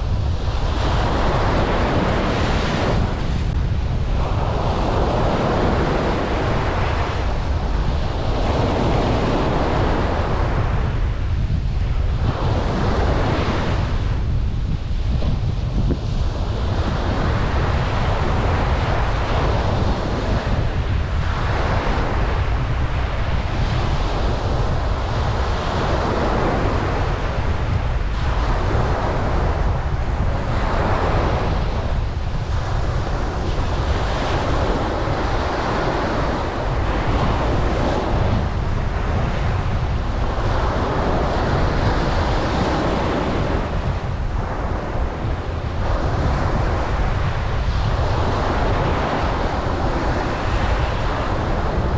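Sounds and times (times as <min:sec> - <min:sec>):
waves breaking on beach: 0:00.0 - 0:51.9
wind rumble on microphone: 0:00.0 - 0:51.9.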